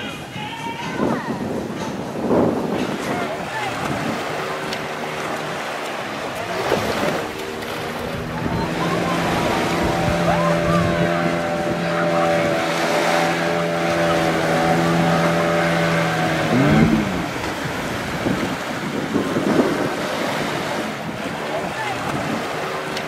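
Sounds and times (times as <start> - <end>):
surf: 0.0 - 23.0
wind: 0.0 - 23.0
motorboat engine running: 1.3 - 23.0.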